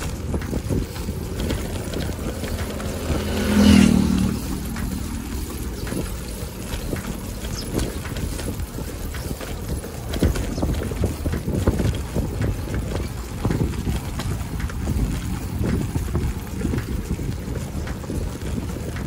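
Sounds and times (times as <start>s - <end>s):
bicycle rattling over bricks: 0.0s - 19.0s
wind noise on microphone: 0.0s - 19.0s.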